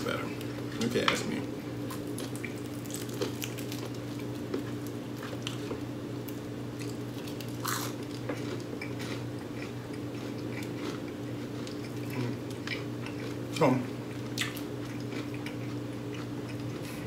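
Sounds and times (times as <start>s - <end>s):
chewing crispy fried chicken: 0.0s - 17.0s
steady low hum: 0.0s - 17.0s.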